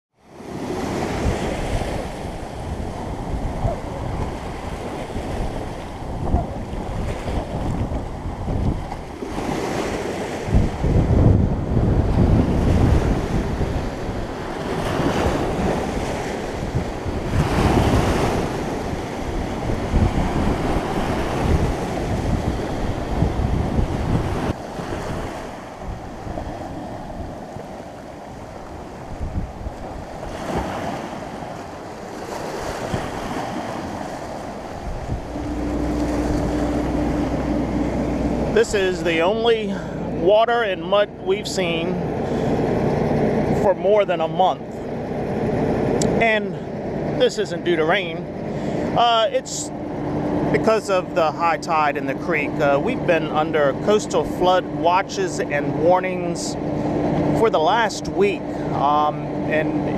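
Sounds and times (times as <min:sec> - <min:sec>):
wind buffeting microphone: 0:00.6 - 0:59.9.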